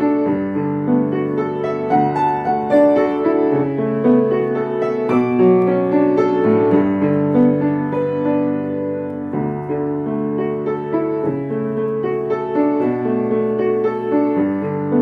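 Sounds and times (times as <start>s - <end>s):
slow solo piano piece: 0.0s - 15.0s.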